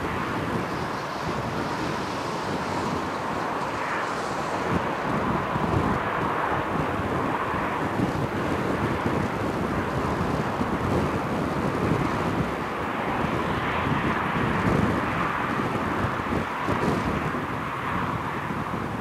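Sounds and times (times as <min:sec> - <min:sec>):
distant jet engine rumble: 0:00.0 - 0:19.0
wind buffeting microphone: 0:00.0 - 0:19.0.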